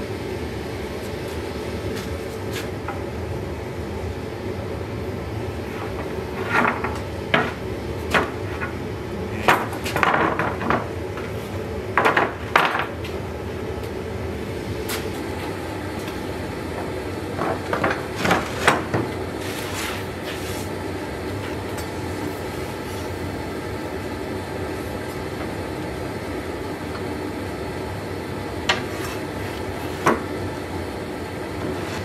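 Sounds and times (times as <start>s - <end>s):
gas forge burner roaring: 0.0s - 32.0s.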